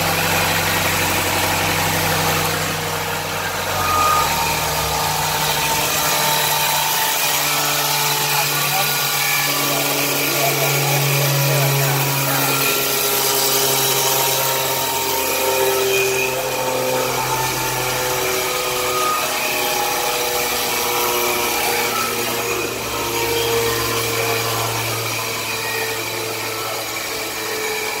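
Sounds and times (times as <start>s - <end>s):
band saw sawing wood: 0.0s - 28.0s.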